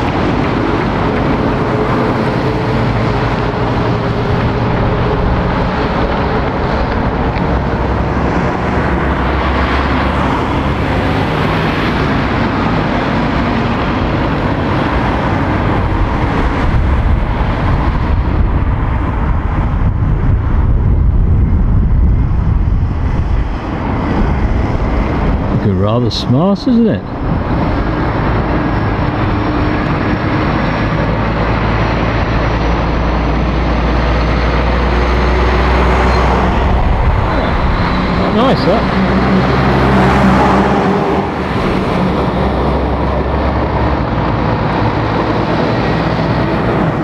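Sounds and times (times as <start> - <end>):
tyres rolling on tarmac: 0.0 - 20.6, 22.3 - 47.0
lorries driving past: 0.0 - 47.0.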